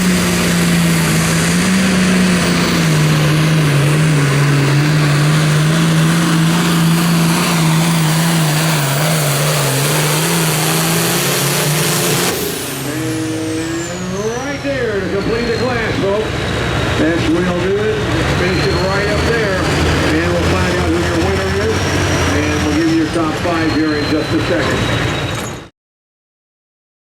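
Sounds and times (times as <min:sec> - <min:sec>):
diesel tractor engine under load: 0:00.0 - 0:25.7.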